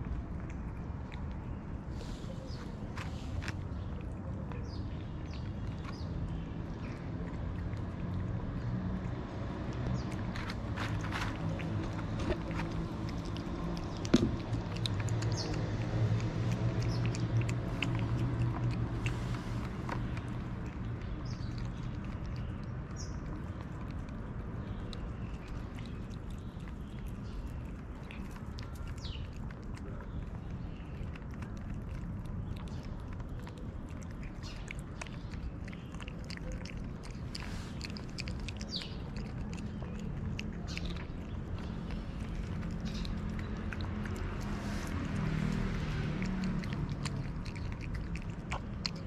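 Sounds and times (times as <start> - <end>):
cats chewing wet food: 0.0 - 49.0.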